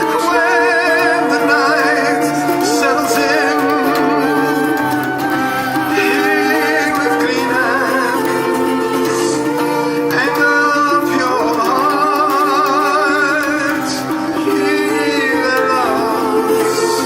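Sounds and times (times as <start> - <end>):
acoustic accompaniment: 0.0 - 17.0
man and woman singing duet: 0.0 - 17.0.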